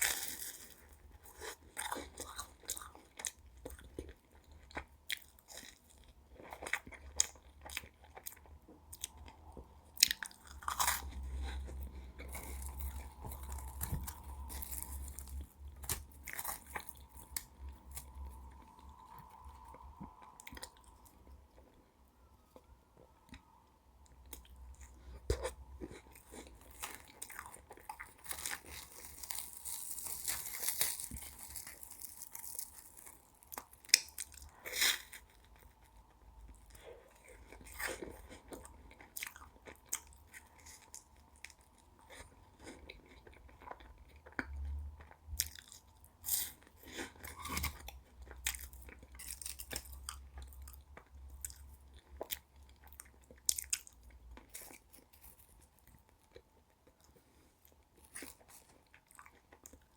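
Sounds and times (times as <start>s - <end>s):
crunchy bites and chewing: 0.0s - 21.2s, 24.3s - 36.0s, 36.6s - 57.2s.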